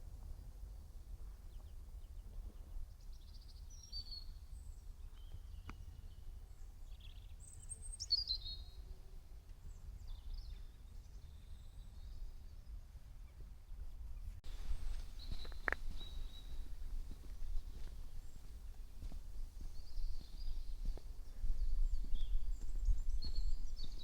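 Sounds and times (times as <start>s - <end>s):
songbirds chirping: 0.2s - 24.0s.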